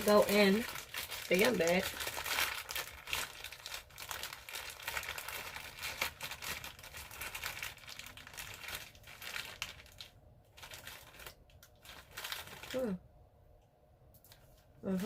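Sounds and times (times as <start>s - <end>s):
snack bag crinkling: 0.0s - 13.0s.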